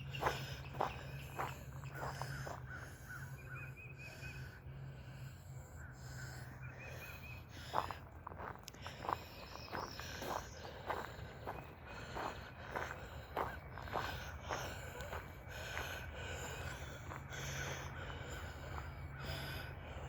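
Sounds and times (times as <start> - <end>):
footsteps walking outdoors: 0.0 - 3.4, 6.8 - 20.0
birds chirping: 0.0 - 20.0.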